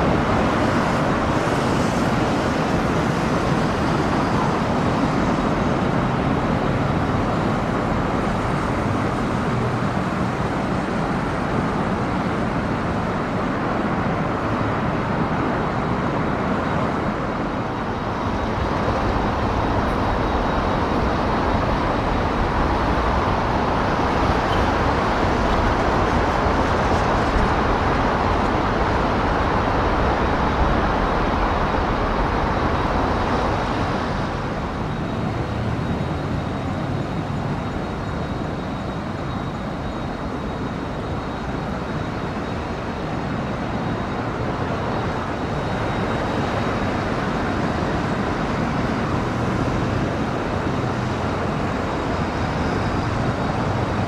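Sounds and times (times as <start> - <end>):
cars passing on road: 0.0 - 54.0.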